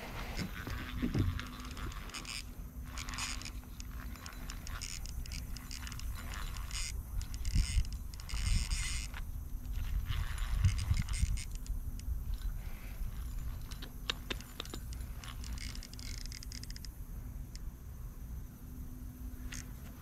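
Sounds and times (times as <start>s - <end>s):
fishing reel clicking and rattling: 0.2s - 17.7s, 19.4s - 20.0s.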